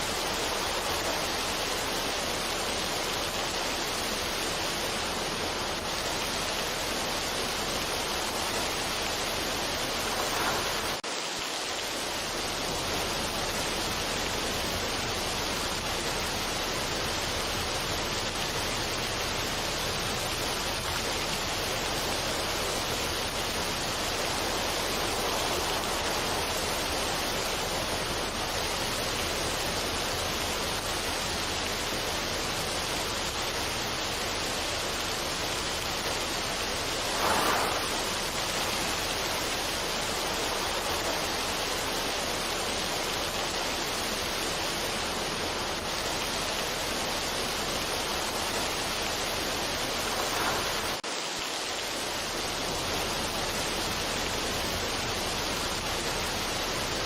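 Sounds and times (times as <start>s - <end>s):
steady rushing water noise: 0.0s - 57.0s.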